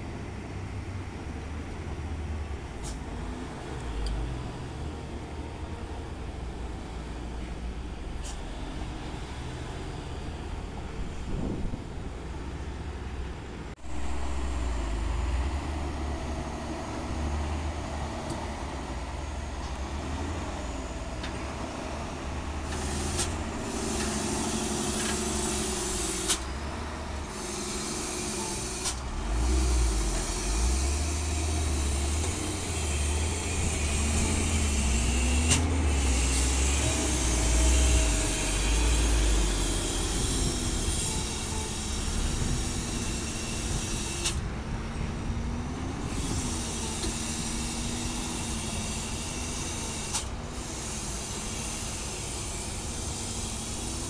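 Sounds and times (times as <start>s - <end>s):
truck diesel engine running low: 0.0s - 54.0s.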